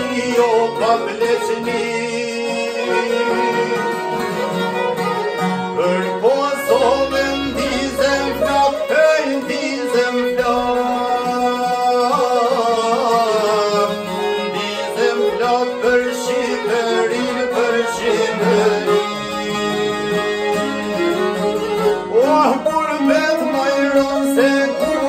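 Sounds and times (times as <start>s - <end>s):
man singing: 0.0s - 4.6s, 5.7s - 21.3s, 22.0s - 25.0s
accordion: 0.0s - 25.0s
plucked lutes: 0.0s - 25.0s
violin: 0.0s - 25.0s.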